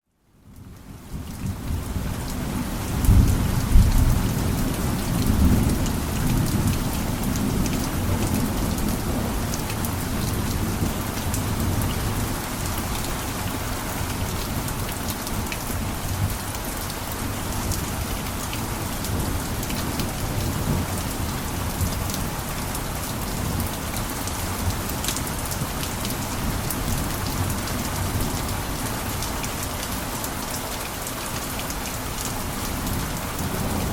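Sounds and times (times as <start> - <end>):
heavy rain falling: 0.3 - 33.9.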